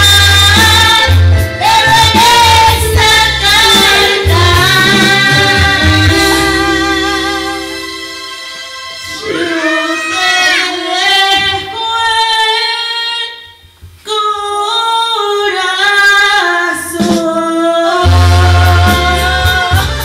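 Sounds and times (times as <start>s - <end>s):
women singing into microphones: 0.0s - 7.9s, 9.2s - 20.0s
amplified backing music: 0.0s - 14.0s, 16.2s - 20.0s.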